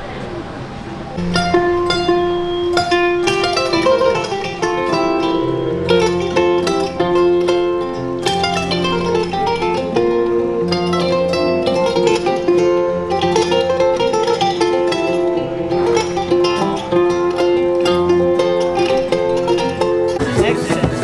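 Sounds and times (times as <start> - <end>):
harp-lute plucked melody: 0.7 - 21.0.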